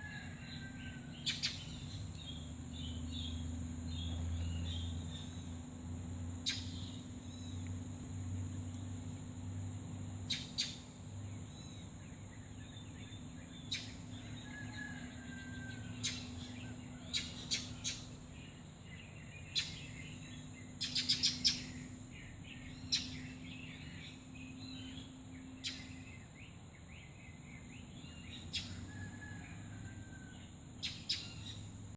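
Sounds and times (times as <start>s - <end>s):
faint bird twittering: 0.0s - 5.6s, 6.3s - 7.8s, 10.2s - 31.8s.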